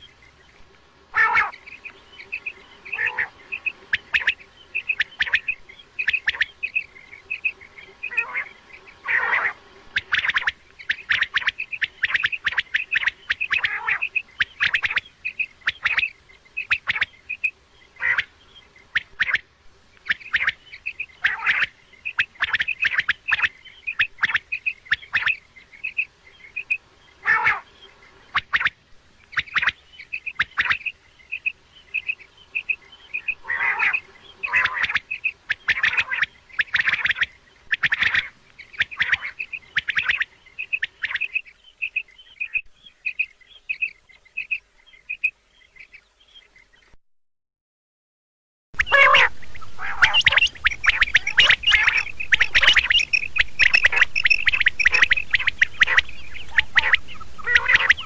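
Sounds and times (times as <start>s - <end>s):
quail calling: 0.0s - 45.9s, 48.8s - 58.0s.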